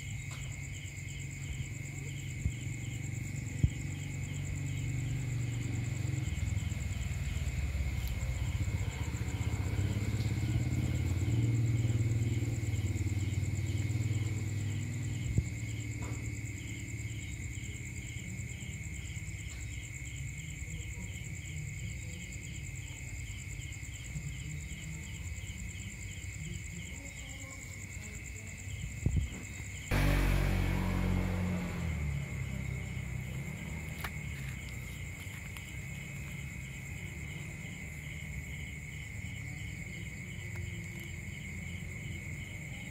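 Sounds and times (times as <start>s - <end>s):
insect chirping: 0.0s - 42.9s
insect high-pitched trill: 0.0s - 42.9s.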